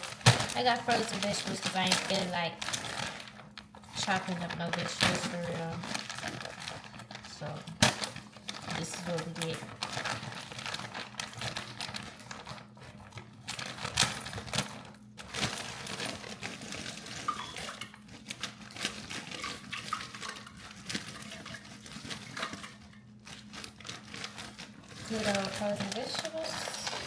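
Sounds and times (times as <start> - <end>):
frozen vegetables rattling: 0.0 - 27.0.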